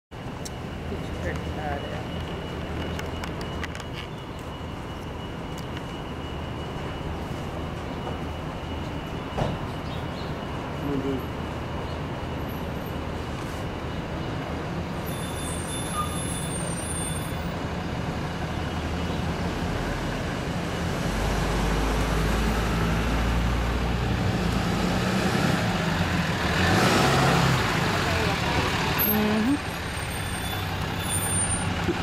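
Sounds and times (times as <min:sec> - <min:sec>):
vehicle engines rumbling: 0:00.1 - 0:32.0.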